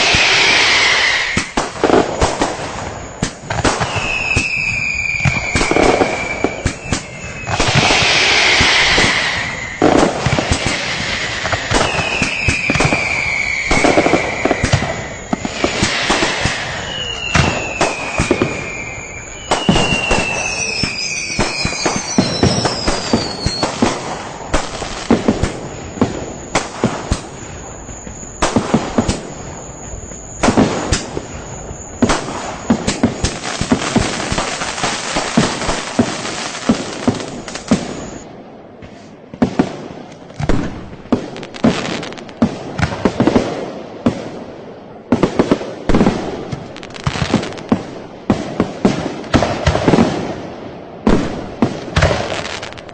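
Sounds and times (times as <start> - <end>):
firecrackers banging: 0.0 - 50.4
whistling fireworks: 0.0 - 52.9.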